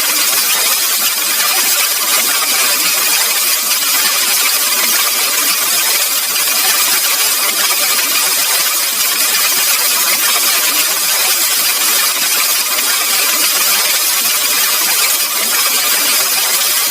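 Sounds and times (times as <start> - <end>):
harsh electronic noise: 0.0 - 16.9.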